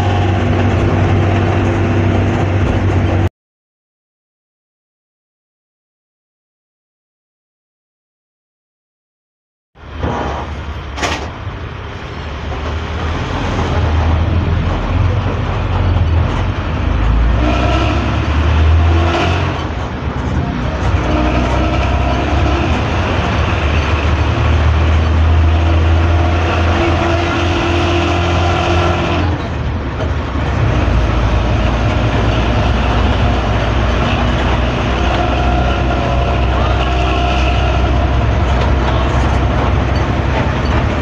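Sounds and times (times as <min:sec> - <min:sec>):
bus engine rumbling: 0:00.0 - 0:03.3, 0:09.8 - 0:41.0.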